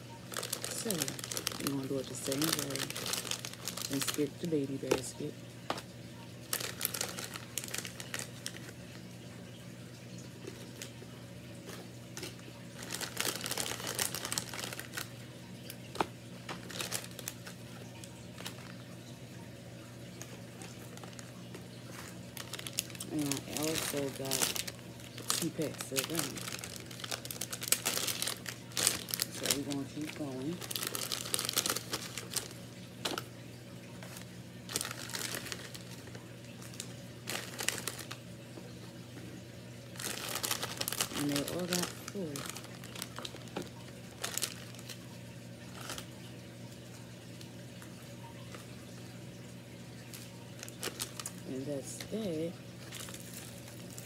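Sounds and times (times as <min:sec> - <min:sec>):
cellophane packaging crinkling: 0:00.0 - 0:05.2, 0:06.3 - 0:19.0, 0:20.0 - 0:38.9, 0:39.7 - 0:48.8, 0:49.4 - 0:54.0.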